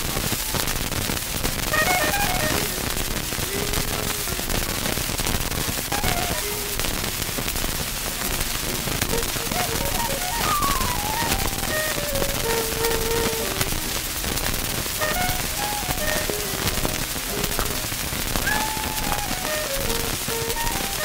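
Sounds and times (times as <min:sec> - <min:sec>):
record surface crackle and hiss: 0:00.0 - 0:21.0
faint pitched sounds: 0:01.7 - 0:21.0.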